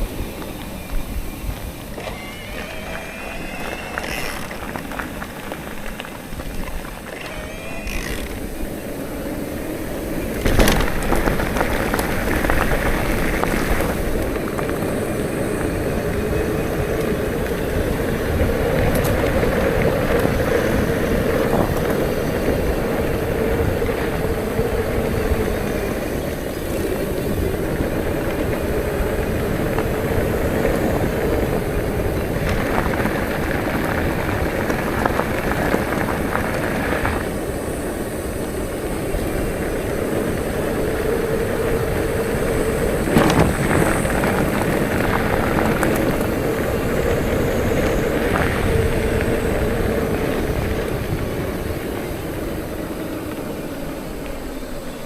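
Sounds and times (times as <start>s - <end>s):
bicycle tyre noise: 0.0s - 55.0s
wind on microphone: 0.0s - 55.0s.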